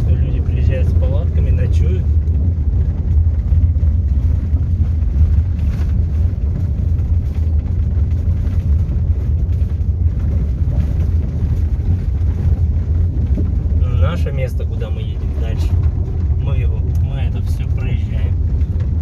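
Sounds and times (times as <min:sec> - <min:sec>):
car engine and tyres rumbling: 0:00.0 - 0:19.0
gravel crackle: 0:00.0 - 0:19.0.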